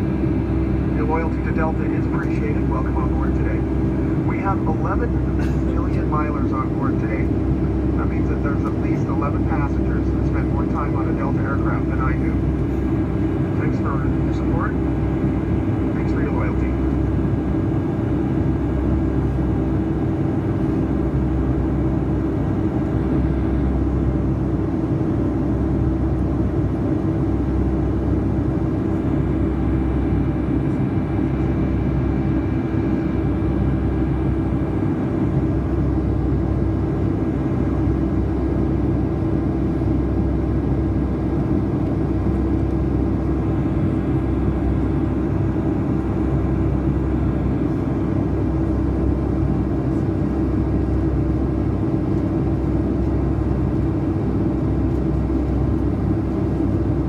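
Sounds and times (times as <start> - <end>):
aircraft engine and airflow drone: 0.0 - 57.0
constant hum: 0.0 - 57.0.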